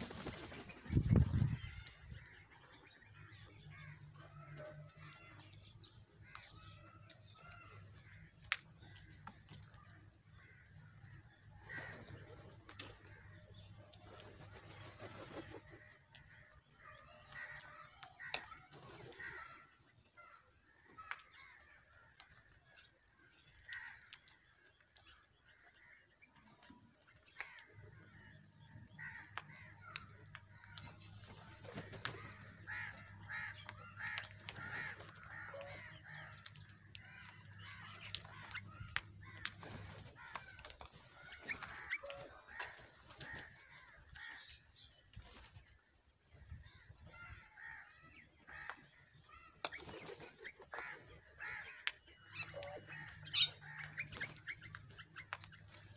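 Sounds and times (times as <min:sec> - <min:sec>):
crows cawing: 0:01.7 - 0:05.6, 0:06.2 - 0:13.7, 0:15.2 - 0:22.5, 0:23.4 - 0:26.1, 0:27.3 - 0:44.9, 0:46.6 - 0:55.9.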